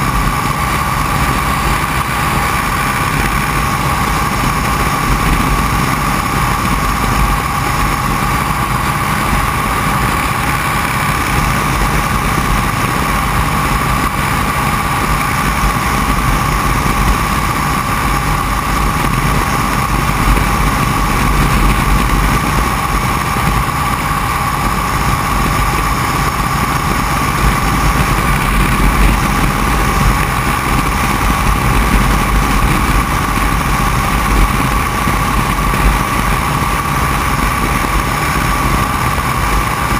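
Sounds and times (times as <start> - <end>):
biplane engine and propeller: 0.0 - 39.9
wind over microphone: 0.0 - 39.9.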